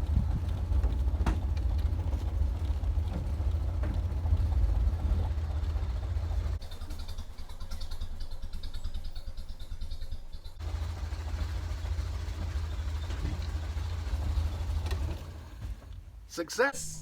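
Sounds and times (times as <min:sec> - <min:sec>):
engine running with low pulse: 0:00.0 - 0:16.2.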